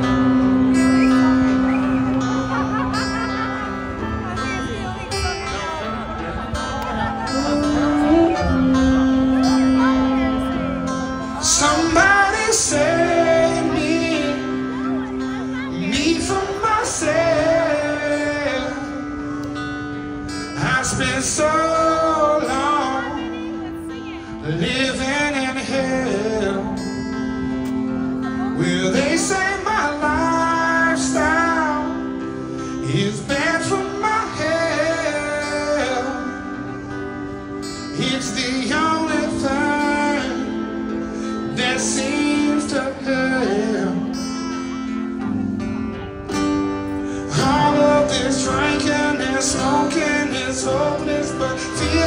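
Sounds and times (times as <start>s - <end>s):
band playing sustained chords: 0.0s - 52.0s
man singing with vibrato: 0.0s - 52.0s.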